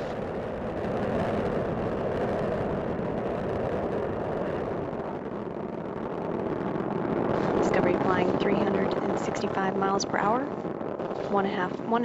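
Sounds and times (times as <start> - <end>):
rocket engines roaring: 0.0 - 12.0.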